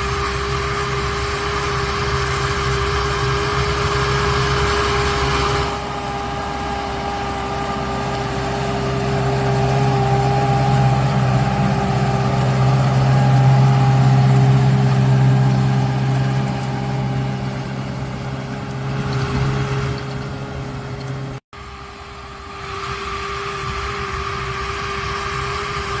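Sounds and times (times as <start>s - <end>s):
constant whine: 0.0s - 26.0s
diesel engine running: 0.0s - 26.0s.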